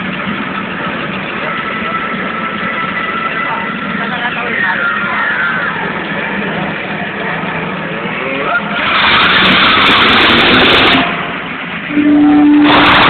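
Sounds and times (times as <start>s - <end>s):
vehicle engine at full power: 0.0s - 13.0s.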